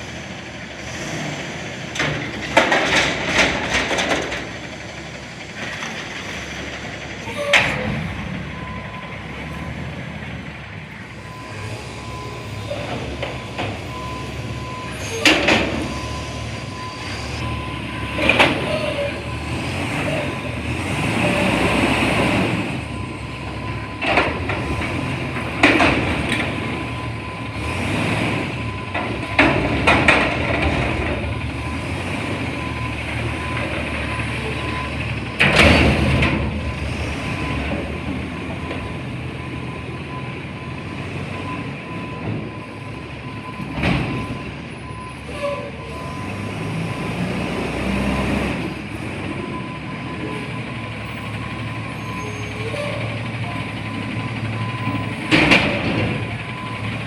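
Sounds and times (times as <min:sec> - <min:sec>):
garbage truck running: 0:00.0 - 0:57.0.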